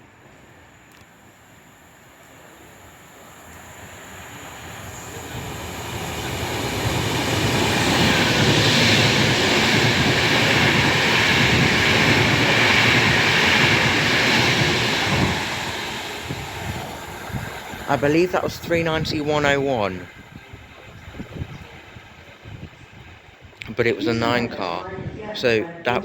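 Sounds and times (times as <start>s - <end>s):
train wheels rushing on rails: 0.0s - 23.5s.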